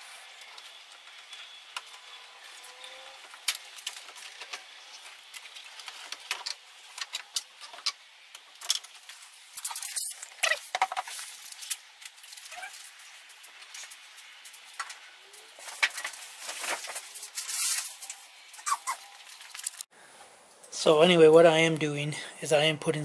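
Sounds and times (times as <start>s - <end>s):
small parts and tools clattering: 0.3s - 19.9s.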